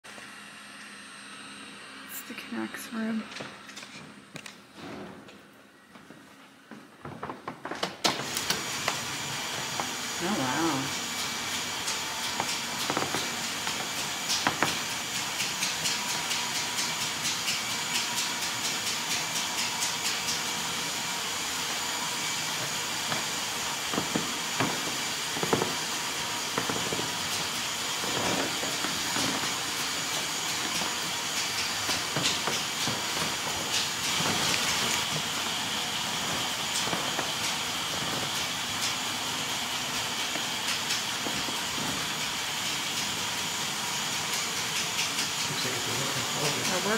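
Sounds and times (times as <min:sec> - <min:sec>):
mechanical hiss and whir: 0:08.1 - 0:46.9.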